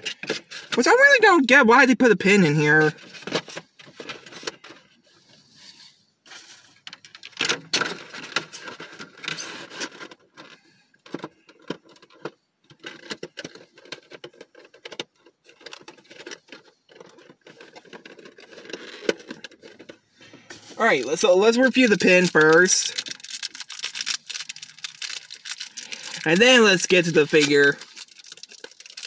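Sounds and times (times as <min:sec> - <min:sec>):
packaging rustling and crinkling: 0:03.0 - 0:29.0.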